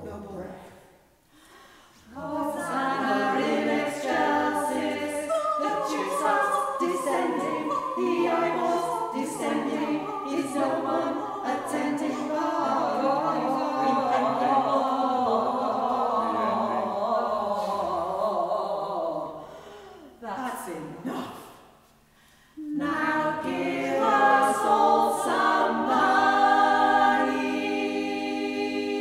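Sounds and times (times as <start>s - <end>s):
vocal group singing a cappella: 1.6s - 20.2s, 22.5s - 29.0s.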